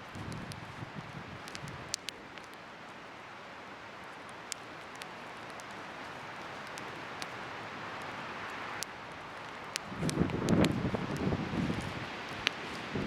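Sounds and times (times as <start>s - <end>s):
bonfire crackles: 0.0s - 13.0s.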